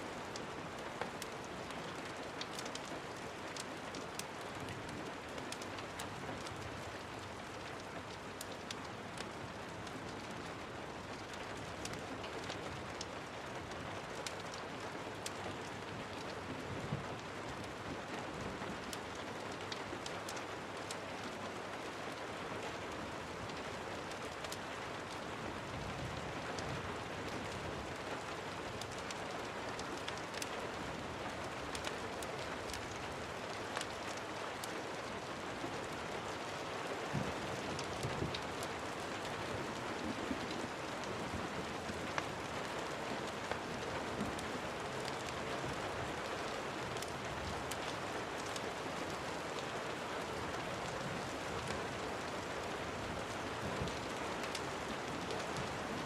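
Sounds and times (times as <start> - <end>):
rain falling: 0.0 - 56.0
wood fire crackling: 0.3 - 16.4, 23.2 - 26.2, 27.0 - 56.0.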